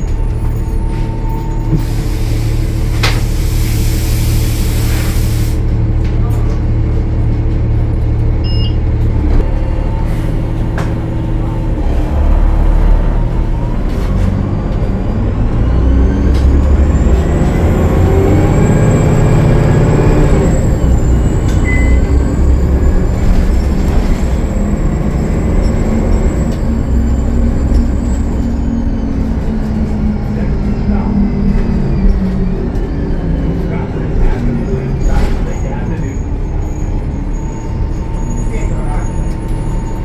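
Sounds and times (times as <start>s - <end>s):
diesel bus engine accelerating: 0.0s - 40.0s.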